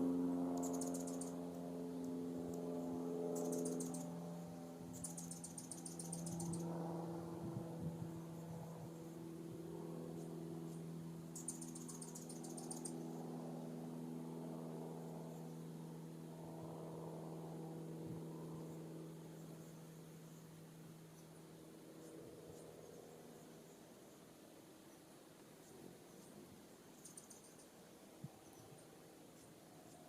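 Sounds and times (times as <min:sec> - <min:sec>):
low hum: 0:00.0 - 0:24.2.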